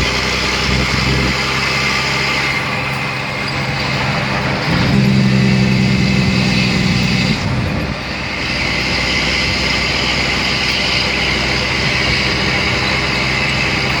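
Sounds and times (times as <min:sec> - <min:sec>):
diesel engine drone: 0:00.0 - 0:14.0
truck rumble and road hiss: 0:00.0 - 0:14.0.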